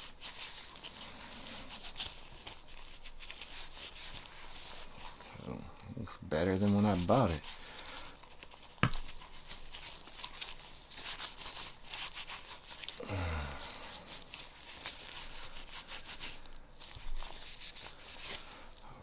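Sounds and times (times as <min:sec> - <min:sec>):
cloth wiping a pistol: 0:00.0 - 0:05.7, 0:06.3 - 0:13.0, 0:13.7 - 0:19.0.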